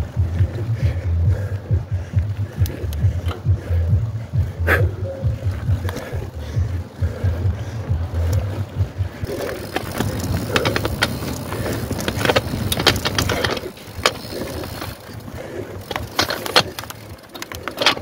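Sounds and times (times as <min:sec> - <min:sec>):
bike chain and frame rattling: 0:00.0 - 0:18.0
tyres rumbling: 0:00.0 - 0:18.0
wind: 0:00.0 - 0:18.0.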